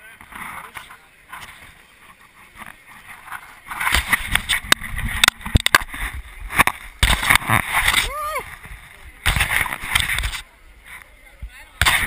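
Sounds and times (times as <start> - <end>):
camera handling rumble and rubbing: 0.2 - 11.0.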